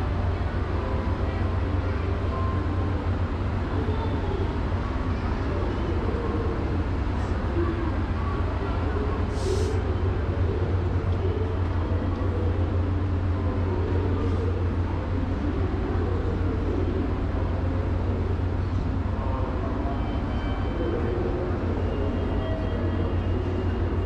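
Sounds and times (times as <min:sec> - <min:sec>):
electric train humming: 0:00.0 - 0:24.0.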